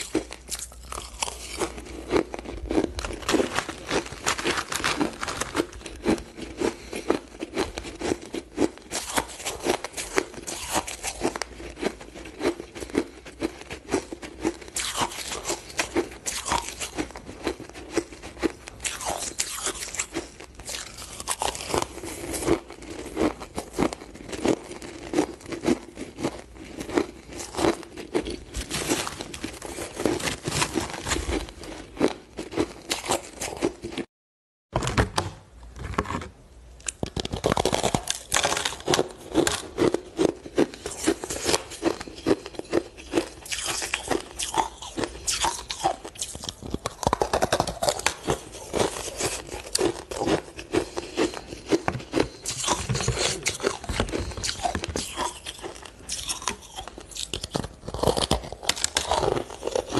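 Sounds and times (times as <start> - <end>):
crunching shaved ice: 0.0 - 33.8, 37.2 - 59.9.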